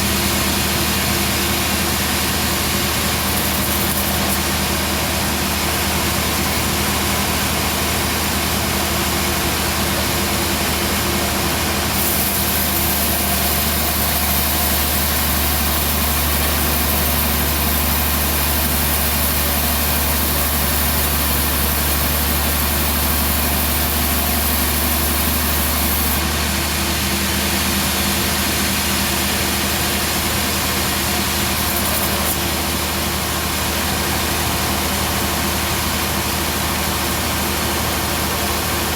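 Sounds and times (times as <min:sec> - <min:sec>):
band saw cutting a log: 0:00.0 - 0:38.9.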